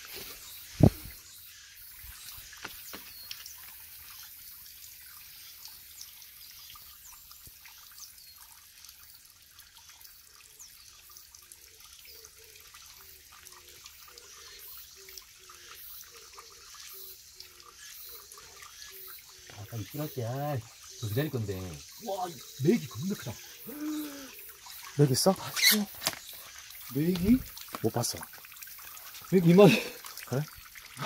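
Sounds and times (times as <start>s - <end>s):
stream trickling over rocks: 0.0s - 31.0s.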